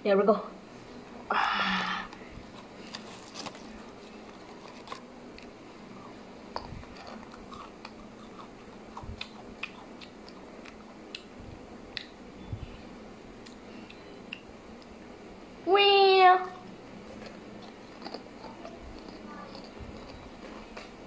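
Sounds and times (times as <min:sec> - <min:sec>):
faint steady hum: 0:00.0 - 0:21.0
child chewing crisp food: 0:01.0 - 0:12.2, 0:13.4 - 0:15.0, 0:16.6 - 0:21.0.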